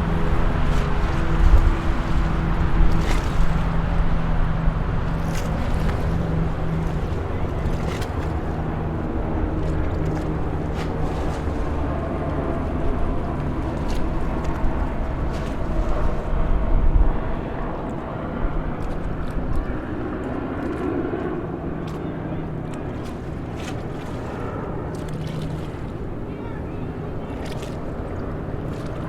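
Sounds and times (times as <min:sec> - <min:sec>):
engine hum: 0:00.0 - 0:29.0
highway traffic rumble: 0:00.0 - 0:29.0.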